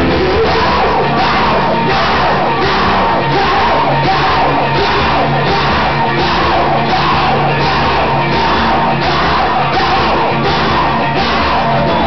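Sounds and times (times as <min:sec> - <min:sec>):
live rock band playing: 0:00.0 - 0:12.0
person yelling singing: 0:00.0 - 0:12.0.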